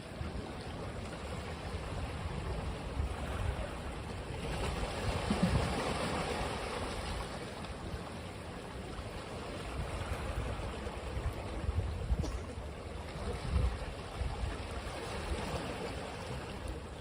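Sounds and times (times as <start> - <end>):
ocean waves on a beach: 0.0 - 17.0.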